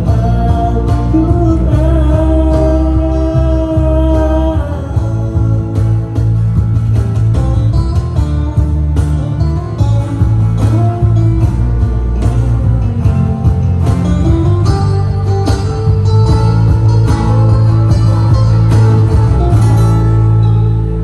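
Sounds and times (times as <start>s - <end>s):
heavy low bass: 0.0s - 21.0s
plucked acoustic guitar: 0.0s - 21.0s.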